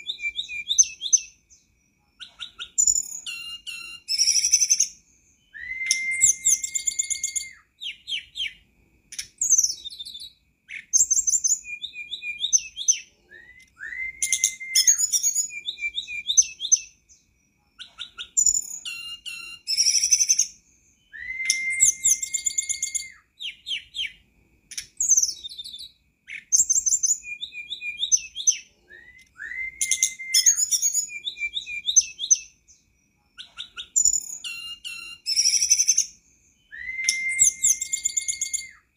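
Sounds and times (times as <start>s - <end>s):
bird whistling: 0.0s - 8.6s, 9.2s - 17.2s, 17.8s - 32.8s, 33.4s - 38.9s
bird twittering: 0.0s - 38.8s.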